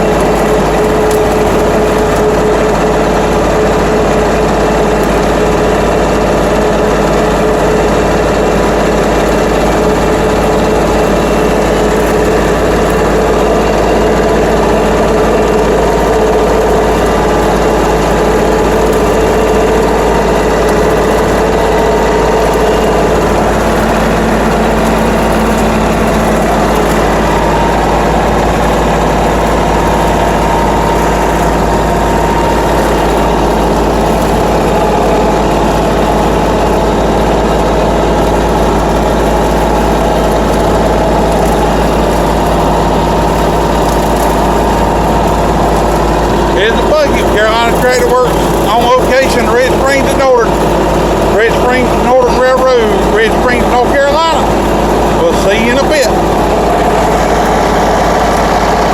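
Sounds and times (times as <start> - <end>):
rotary cutter mowing brush: 0.0 - 58.9
tractor engine running: 0.0 - 58.9.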